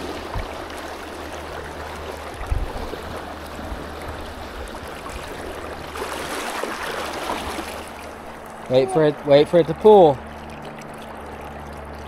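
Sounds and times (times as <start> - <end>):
creek water rushing over rocks: 0.0 - 10.1.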